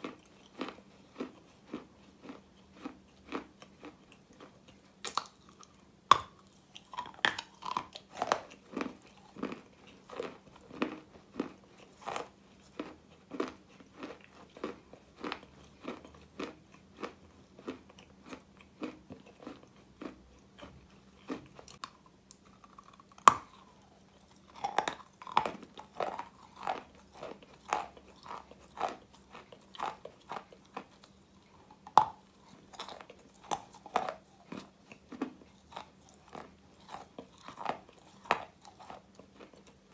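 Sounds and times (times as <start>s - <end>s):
crunching chewing: 0.0s - 39.9s.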